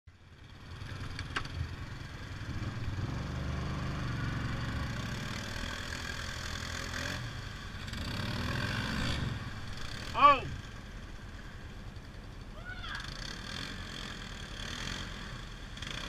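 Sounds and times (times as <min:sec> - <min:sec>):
atv engine running: 0:00.1 - 0:16.0.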